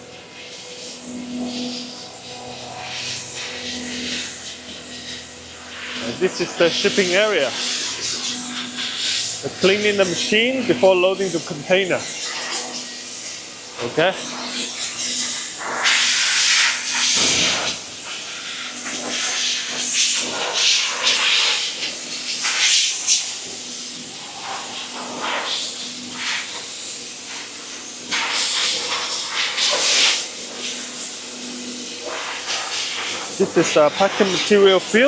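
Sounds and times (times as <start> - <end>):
cleaning jet hissing in bursts: 0.0 - 35.0.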